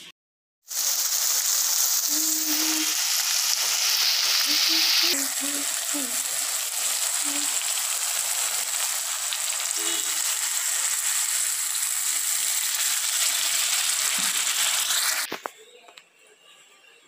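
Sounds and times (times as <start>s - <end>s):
chicken sizzling in a pan: 0.6s - 15.4s.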